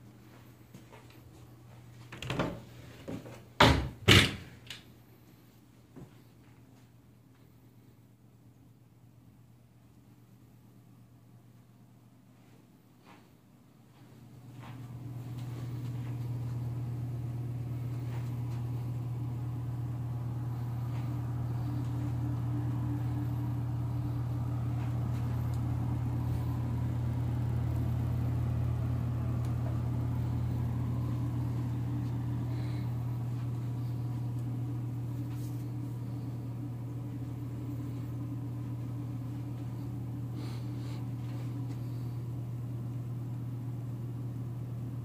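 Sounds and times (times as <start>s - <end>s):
low machine hum: 0.0s - 45.0s.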